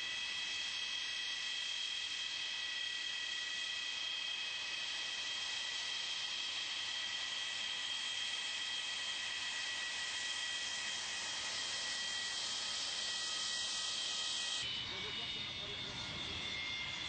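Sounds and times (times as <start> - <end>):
jet engine whining: 0.0 - 17.0.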